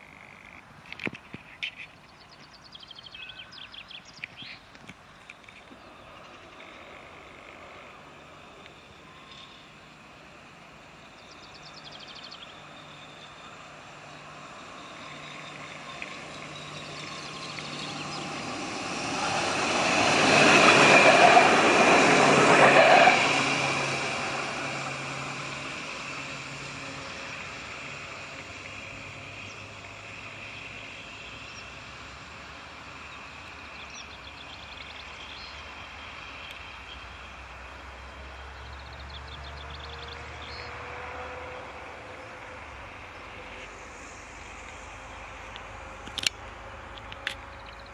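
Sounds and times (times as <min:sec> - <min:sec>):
tram passing by: 0:02.9 - 0:47.9.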